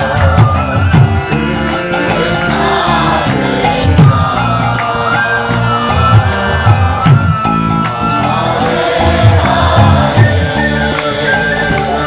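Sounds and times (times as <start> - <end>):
drum beating: 0.0 - 12.0
harmonium chords: 0.0 - 12.0.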